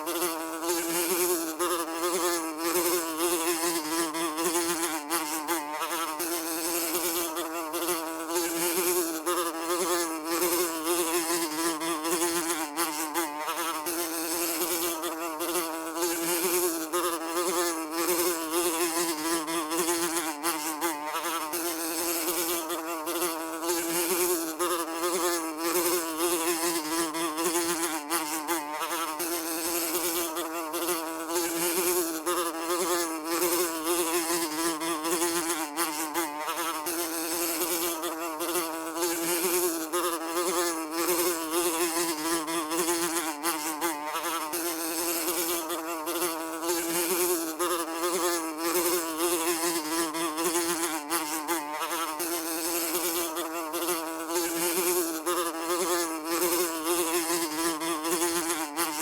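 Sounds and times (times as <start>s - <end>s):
fly buzzing: 0.0s - 59.0s.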